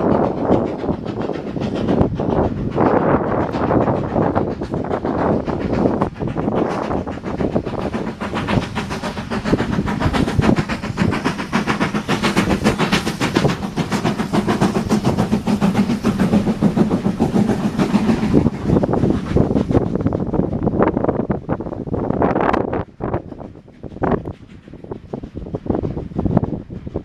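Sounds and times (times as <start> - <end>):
train rumble: 0.0 - 27.0
train wheels clicking over rail joints: 0.0 - 27.0.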